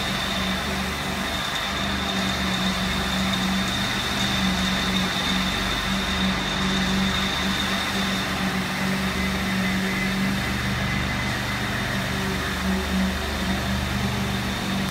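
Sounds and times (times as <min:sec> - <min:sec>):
high whine: 0:00.0 - 0:14.9
machinery hum: 0:00.0 - 0:14.9.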